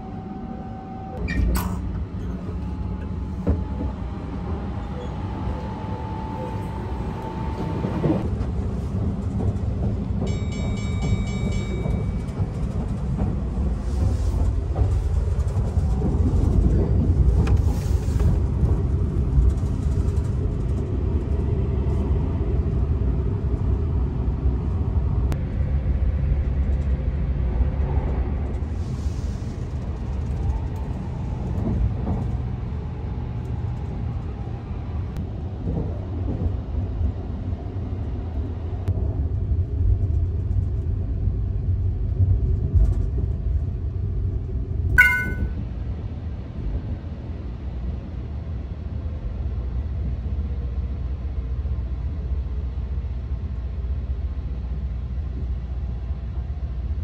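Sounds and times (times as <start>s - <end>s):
train rumbling from inside carriage: 0.0s - 57.0s.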